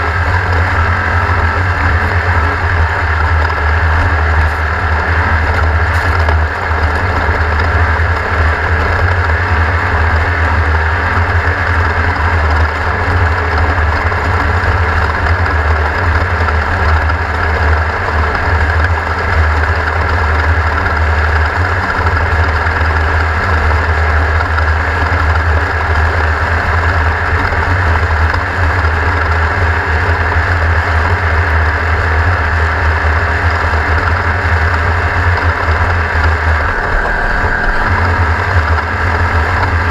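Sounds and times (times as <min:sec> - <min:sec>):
mechanical and road noise: 0:00.0 - 0:39.9
race car engine droning: 0:00.0 - 0:39.9.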